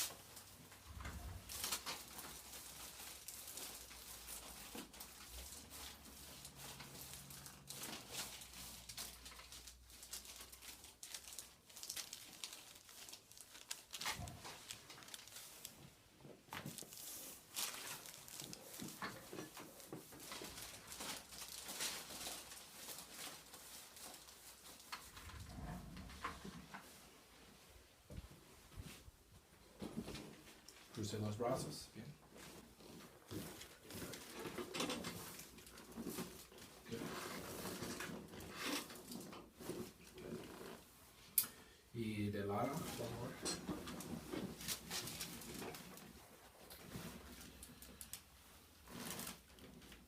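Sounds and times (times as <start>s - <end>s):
clothing rustling and crinkling: 0.0s - 50.0s.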